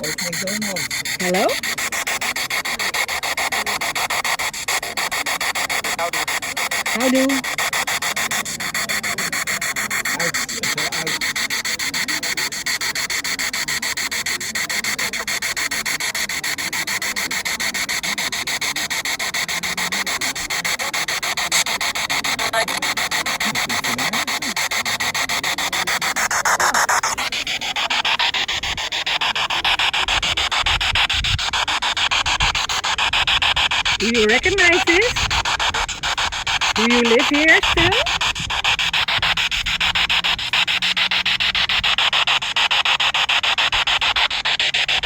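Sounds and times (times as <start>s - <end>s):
choppy radio static hiss: 0.0s - 13.2s, 18.9s - 45.0s.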